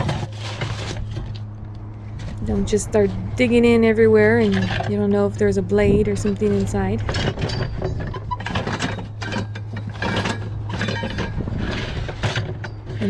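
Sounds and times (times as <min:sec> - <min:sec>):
scrap metal clanking: 0:00.0 - 0:13.0
steady low hum: 0:00.0 - 0:13.0.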